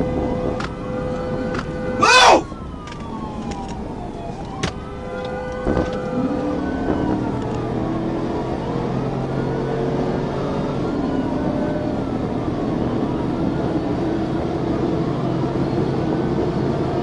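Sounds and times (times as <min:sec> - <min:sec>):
police siren wailing: 0:00.0 - 0:16.8
car engine and road noise: 0:00.0 - 0:17.0.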